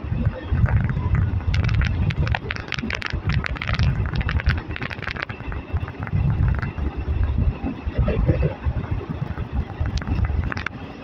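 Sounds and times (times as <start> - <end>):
train rumbling along track: 0.0 - 11.0
wind buffeting microphone: 0.0 - 11.0
sharp clicks and clatter: 0.1 - 7.8, 8.8 - 11.0.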